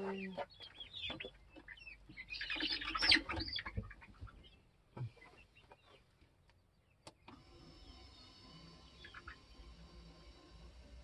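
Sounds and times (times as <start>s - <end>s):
chickens chirping and clucking: 0.0s - 11.0s.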